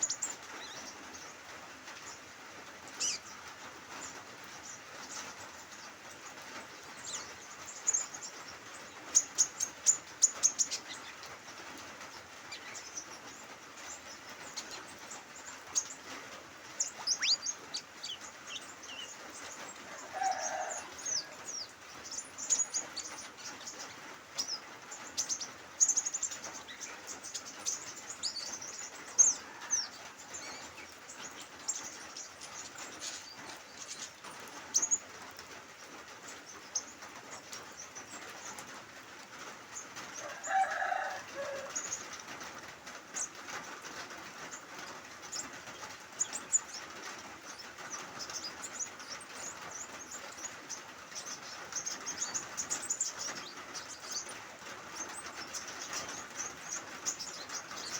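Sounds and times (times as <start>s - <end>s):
light drizzle hiss: 0.0s - 57.9s
small birds chirping: 0.0s - 57.9s.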